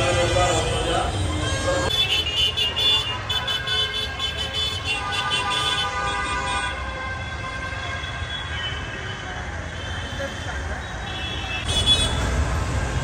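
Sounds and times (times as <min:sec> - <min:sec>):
traffic and crowd rumble: 0:00.0 - 0:13.0
vehicle horns sounding: 0:00.1 - 0:12.3.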